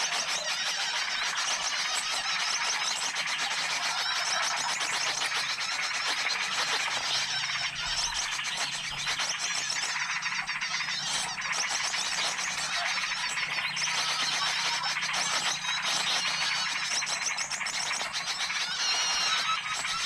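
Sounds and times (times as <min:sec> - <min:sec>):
small birds chirping and twittering: 0:00.0 - 0:20.0.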